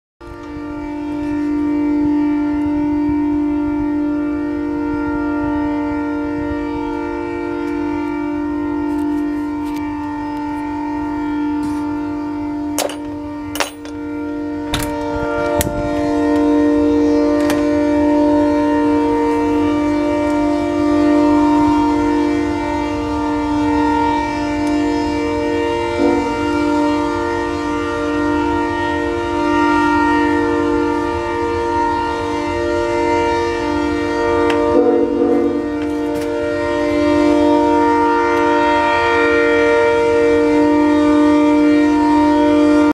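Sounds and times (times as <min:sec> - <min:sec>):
locomotive air horn blast: 0:00.2 - 0:42.9.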